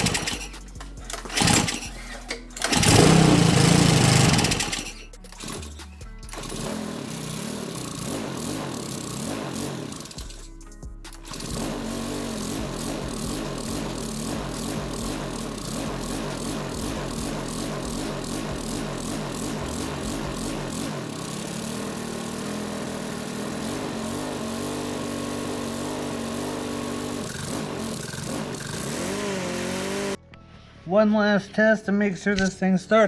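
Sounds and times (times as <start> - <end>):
lawn mower engine running: 0.0 - 30.2.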